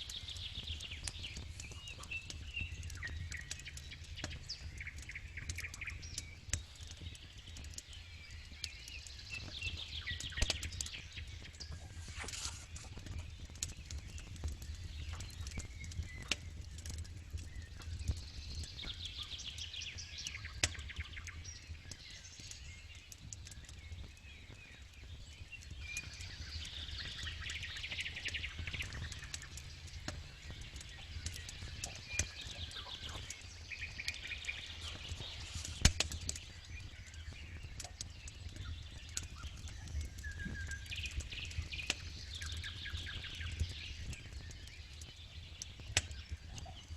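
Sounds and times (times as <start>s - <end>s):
campfire crackling and popping: 0.0s - 46.9s
birds trilling and chirping: 0.1s - 22.6s, 25.5s - 46.9s.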